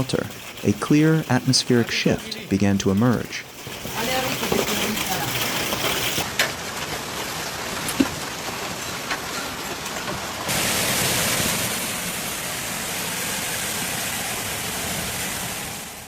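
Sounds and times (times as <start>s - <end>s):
hissing downpour: 0.0s - 16.0s
rain falling: 0.0s - 16.0s.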